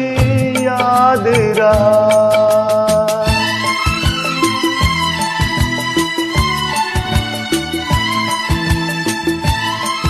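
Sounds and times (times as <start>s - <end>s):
steady drum beat: 0.0s - 10.0s
sustained instrumental melody: 0.0s - 10.0s.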